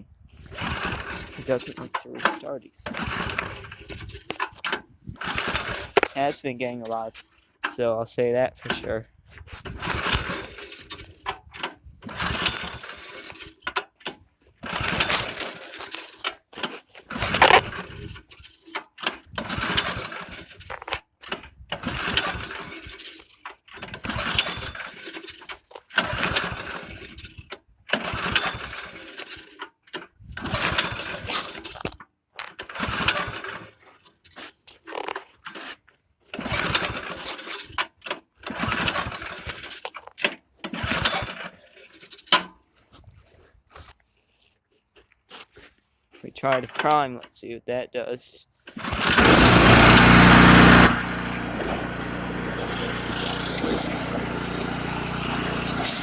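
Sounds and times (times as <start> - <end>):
snowblower engine cranking: 0.4 - 7.8, 8.6 - 43.2, 46.4 - 47.0, 48.6 - 56.0.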